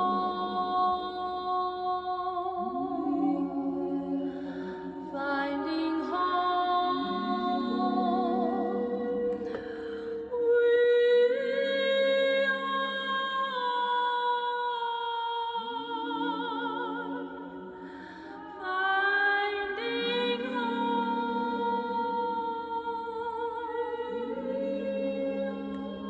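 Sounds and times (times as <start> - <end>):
layered female soprano voice: 0.0 - 26.0.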